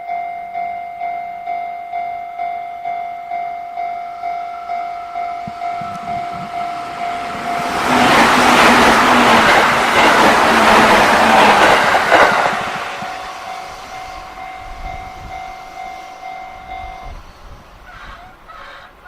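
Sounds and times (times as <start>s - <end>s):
level crossing alarm ringing: 0.0s - 17.8s
electric train rushing past: 3.3s - 19.0s.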